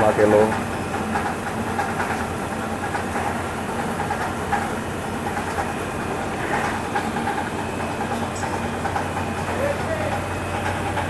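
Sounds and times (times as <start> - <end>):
recycling machinery droning: 0.0 - 11.0.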